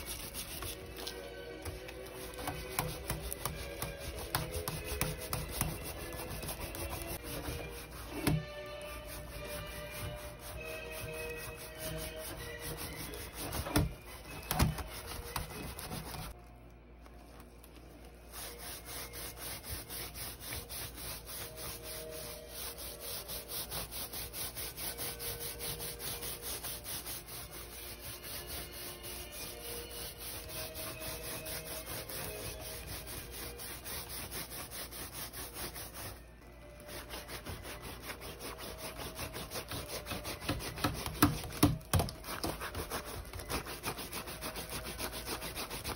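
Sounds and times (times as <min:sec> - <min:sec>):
hand scraping woven basket: 0:00.0 - 0:16.4, 0:17.2 - 0:45.9.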